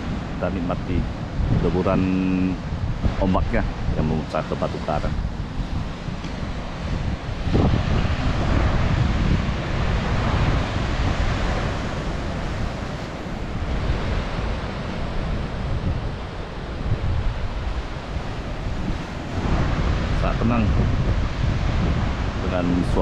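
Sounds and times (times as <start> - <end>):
waves breaking against rocks: 0.0 - 23.0
wind buffeting microphone: 0.0 - 23.0.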